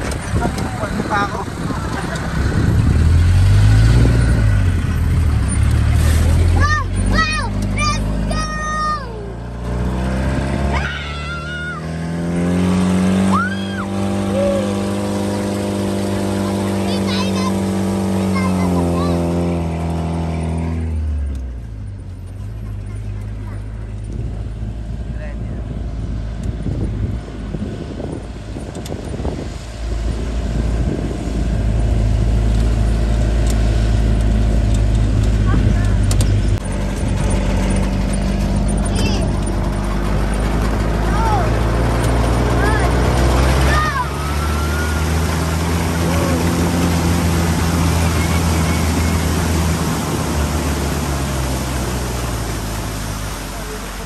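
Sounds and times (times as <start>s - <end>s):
jeep engine running: 0.0s - 54.0s
water splashing around wheels: 0.0s - 54.0s.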